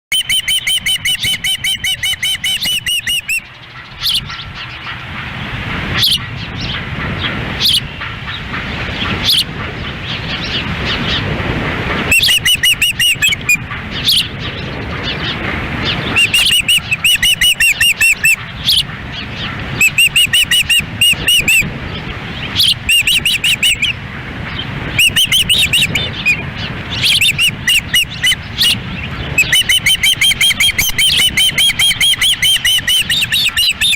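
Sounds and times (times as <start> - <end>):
ospreys chirping: 0.1 - 11.4, 12.1 - 33.9
wind on microphone: 0.1 - 33.9.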